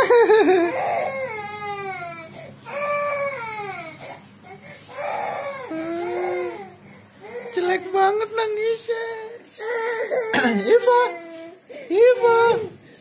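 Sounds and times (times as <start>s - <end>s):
toddler crying: 0.0s - 7.9s, 9.0s - 11.6s.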